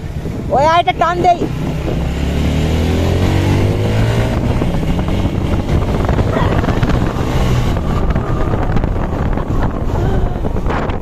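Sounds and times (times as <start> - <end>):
motorcycle engine accelerating: 0.0 - 11.0
wind buffeting microphone: 0.0 - 11.0.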